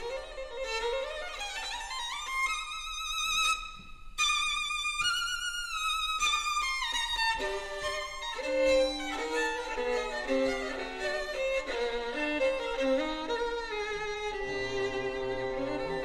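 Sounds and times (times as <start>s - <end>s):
violin melody with vibrato: 0.0s - 16.0s.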